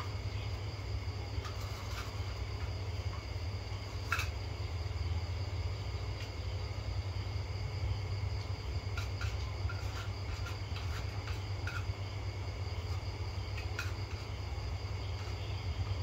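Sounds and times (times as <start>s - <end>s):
constant low hum: 0.0s - 16.0s
crickets trilling: 0.0s - 16.0s.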